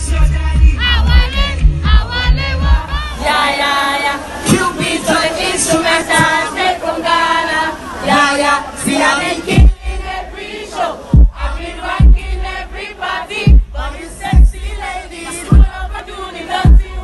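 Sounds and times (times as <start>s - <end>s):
live concert music with bass beat: 0.0s - 6.4s, 8.1s - 10.4s, 11.0s - 17.0s
crowd singing along: 0.0s - 17.0s.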